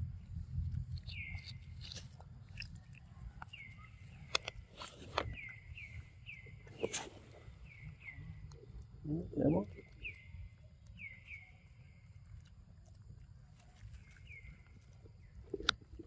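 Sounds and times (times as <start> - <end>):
monkeys eating fruit: 0.1 - 16.0.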